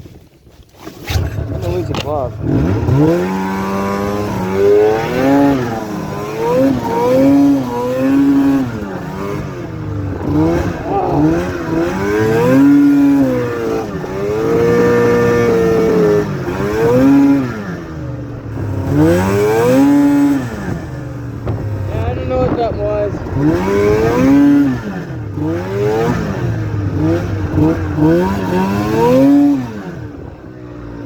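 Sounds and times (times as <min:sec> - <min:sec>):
snowmobile engine revving: 0:01.0 - 0:31.0.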